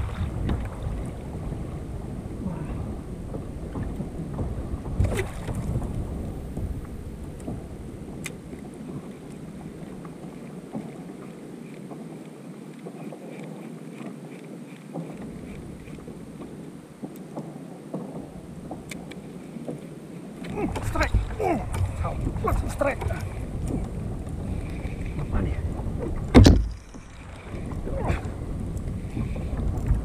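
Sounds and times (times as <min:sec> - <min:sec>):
wind buffeting microphone: 0:00.0 - 0:13.6, 0:14.6 - 0:30.0
water lapping against kayak hull: 0:00.0 - 0:30.0.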